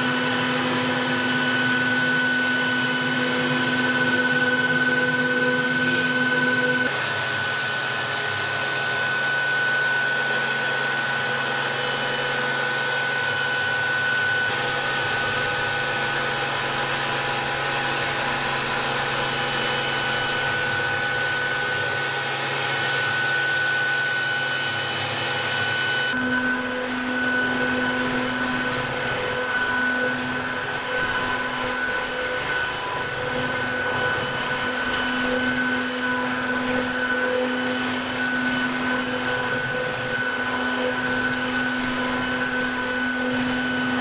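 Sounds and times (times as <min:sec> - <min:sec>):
cnc router spindle whine: 0:00.0 - 0:44.0.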